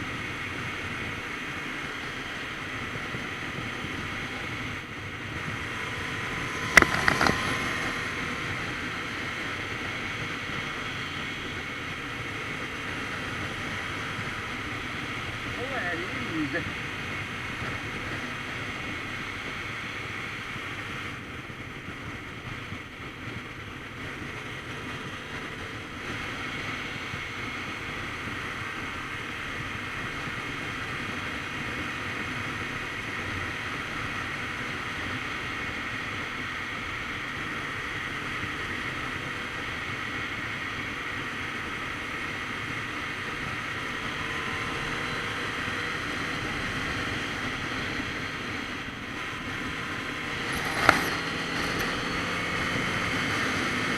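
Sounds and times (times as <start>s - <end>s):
motorcycle engine running: 0.0s - 53.9s
wind rushing over microphone: 0.0s - 53.9s.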